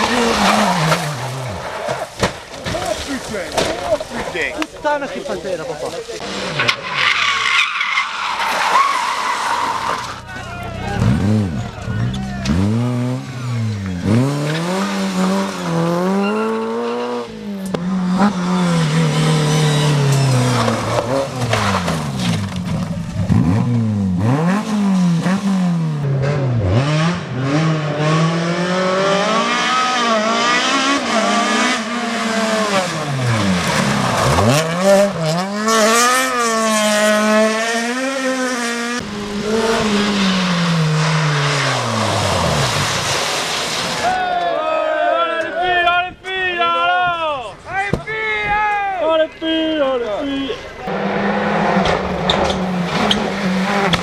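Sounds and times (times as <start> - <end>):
rally car engine revving: 0.0 - 4.2, 6.0 - 44.0, 50.5 - 54.0.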